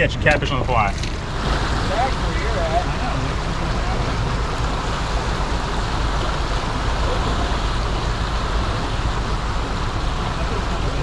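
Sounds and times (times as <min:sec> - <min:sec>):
deep continuous rumble: 0:00.0 - 0:11.0
turbulent river water rushing: 0:00.5 - 0:11.0.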